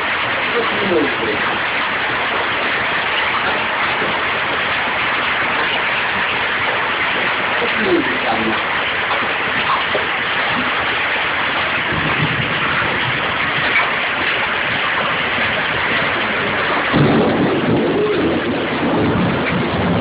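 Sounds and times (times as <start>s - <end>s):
heavy rain and hail: 0.0s - 20.0s
low rumble: 0.0s - 20.0s.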